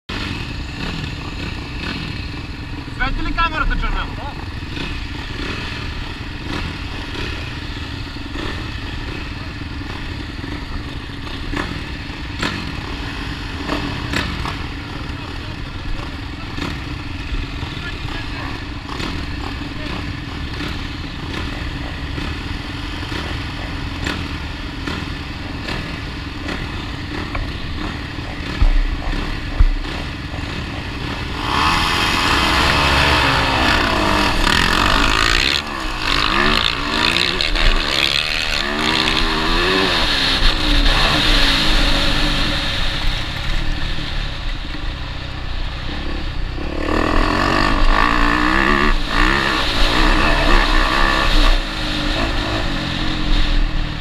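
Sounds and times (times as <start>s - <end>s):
motocross bike engines: 0.1s - 54.0s.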